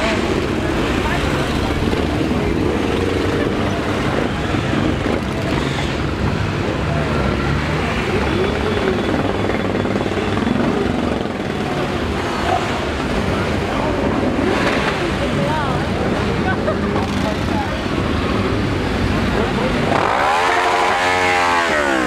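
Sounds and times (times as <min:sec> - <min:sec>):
motorcycles riding past: 0:00.0 - 0:22.0.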